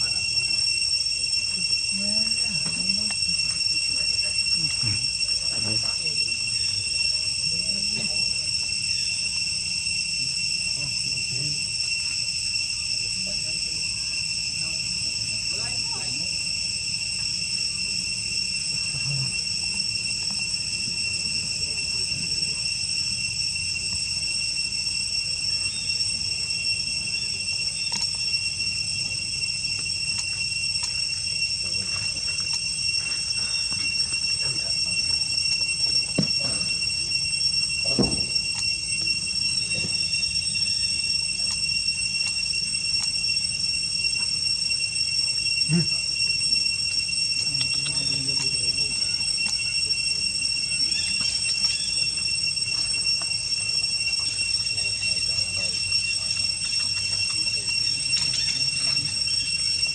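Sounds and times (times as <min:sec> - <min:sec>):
crickets droning: 0:00.0 - 0:59.9.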